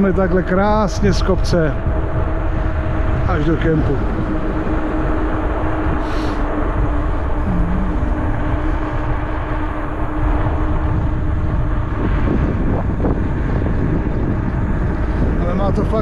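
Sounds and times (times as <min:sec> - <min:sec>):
steady hum: 0:00.0 - 0:16.0
wind rumbling on microphone: 0:00.0 - 0:16.0.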